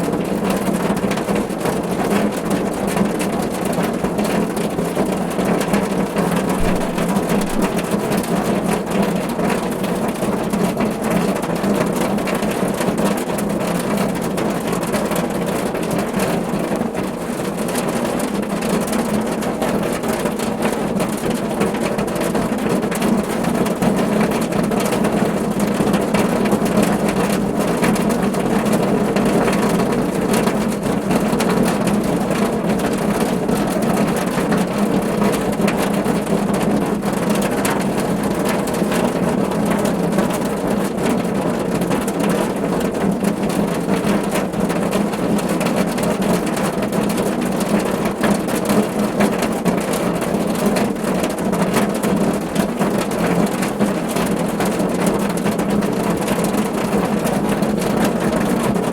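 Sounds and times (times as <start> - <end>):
heavy rain on a car roof: 0.0 - 58.9.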